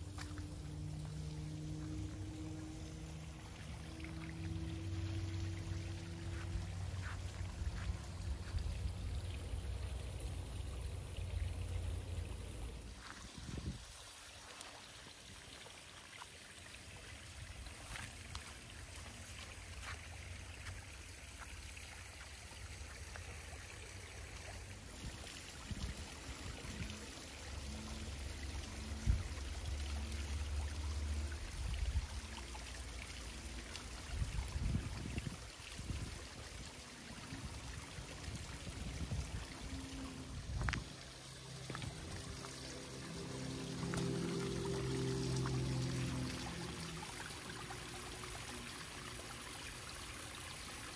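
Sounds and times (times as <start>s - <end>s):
water trickling into pond: 0.0s - 50.9s.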